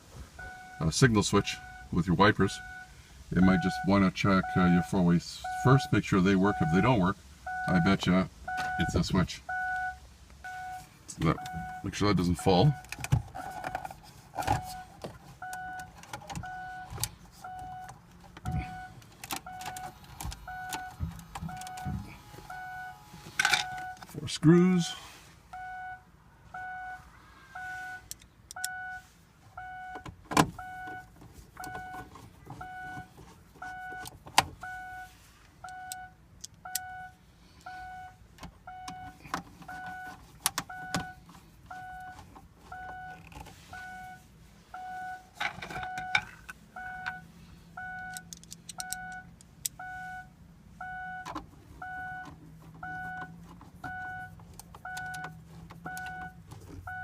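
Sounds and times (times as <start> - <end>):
car warning chime beeping: 0.3 - 13.8, 14.5 - 24.9, 25.5 - 57.0.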